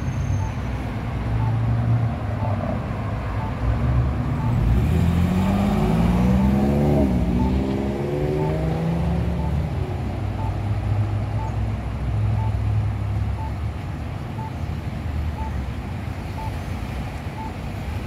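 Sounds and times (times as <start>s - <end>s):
crossing signal beeping: 0.0s - 11.7s, 12.3s - 13.7s, 14.3s - 18.0s
road traffic passing: 0.0s - 18.0s.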